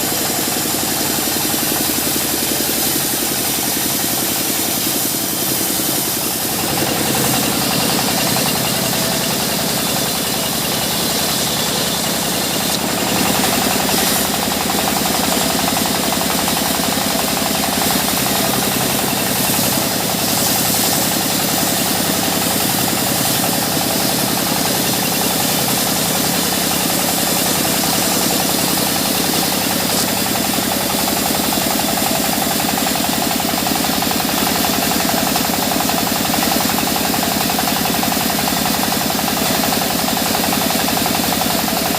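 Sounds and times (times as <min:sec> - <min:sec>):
sawmill engine running: 0:00.0 - 0:41.9.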